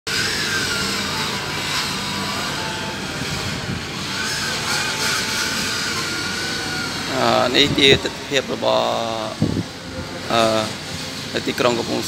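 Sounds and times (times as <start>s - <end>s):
faint thin whine: 0.1s - 12.0s
mechanical drone: 0.1s - 12.0s.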